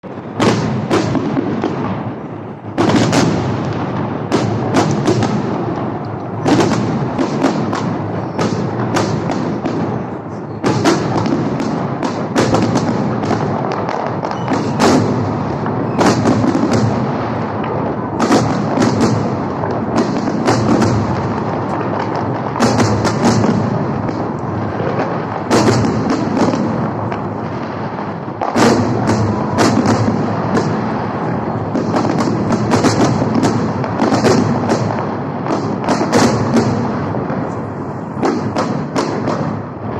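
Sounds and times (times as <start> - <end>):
fireworks bangs and crackling: 0.0 - 39.9
rumble of explosions: 0.0 - 39.9.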